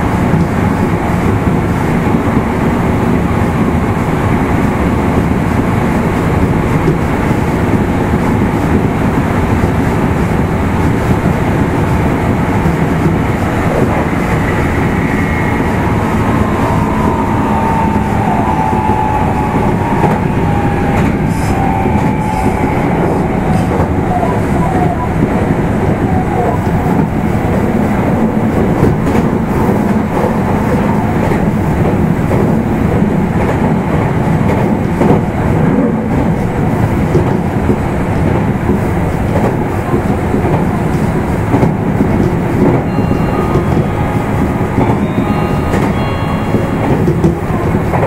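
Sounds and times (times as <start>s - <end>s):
train motors and wheels rumbling: 0.0s - 48.0s.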